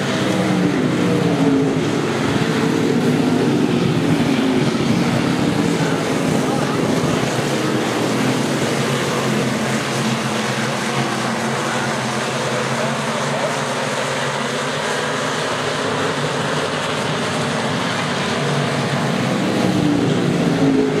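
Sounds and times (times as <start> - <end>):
car engine approaching: 0.0 - 21.0
race car engines din: 0.0 - 21.0.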